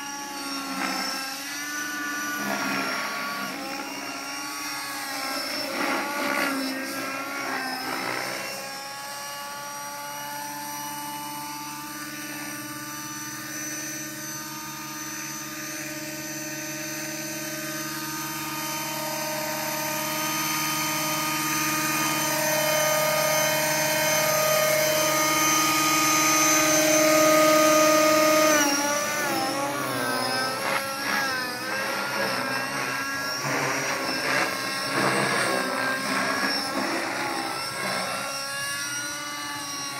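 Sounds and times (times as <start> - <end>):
radio-controlled helicopter whine: 0.0 - 39.9.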